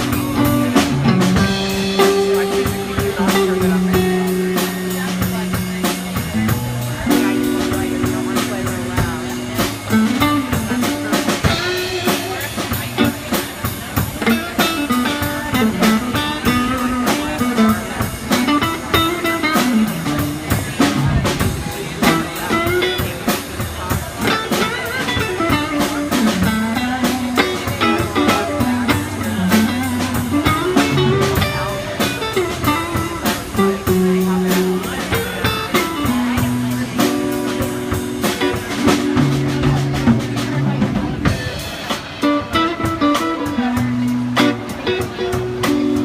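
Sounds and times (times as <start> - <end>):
blues guitar line: 0.0 - 46.0
steady drum beat: 0.0 - 46.0.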